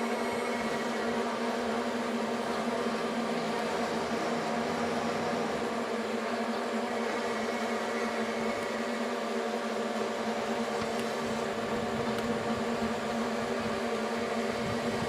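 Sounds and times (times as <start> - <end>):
heavy machine engine droning: 0.0 - 15.0.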